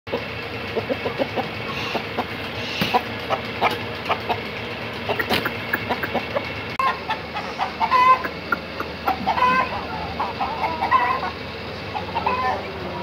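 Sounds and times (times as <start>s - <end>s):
chickens clucking: 0.1s - 13.0s.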